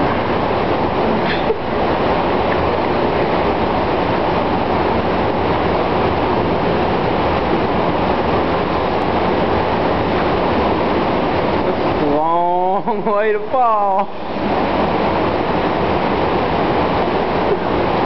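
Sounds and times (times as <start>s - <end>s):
loud steady rushing noise: 0.0s - 18.0s.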